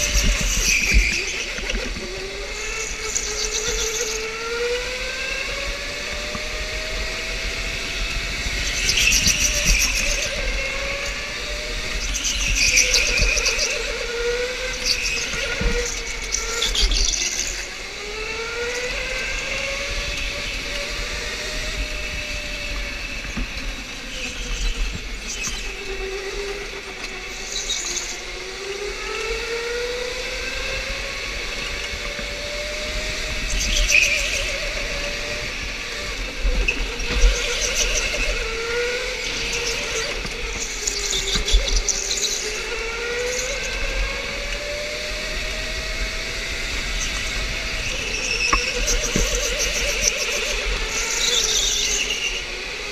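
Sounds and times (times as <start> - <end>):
electric go-kart motor whine: 0.0 - 52.9.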